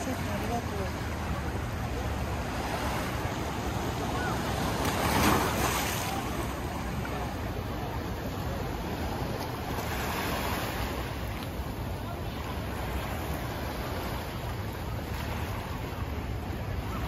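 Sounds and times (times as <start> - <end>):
ocean surf washing onto sand: 0.0 - 17.0.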